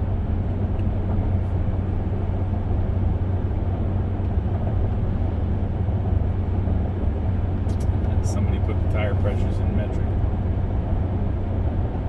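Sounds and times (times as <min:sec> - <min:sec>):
road and engine drone in car: 0:00.0 - 0:12.0.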